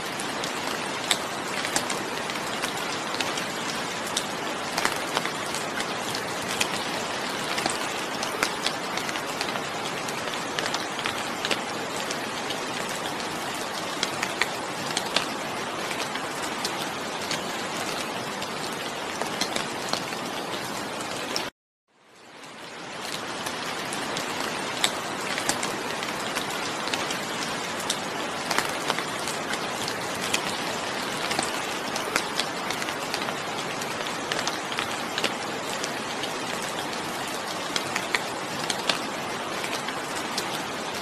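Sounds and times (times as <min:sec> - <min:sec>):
steady rain falling: 0:00.0 - 0:41.0
raindrops ticking: 0:00.1 - 0:21.5, 0:23.0 - 0:41.0.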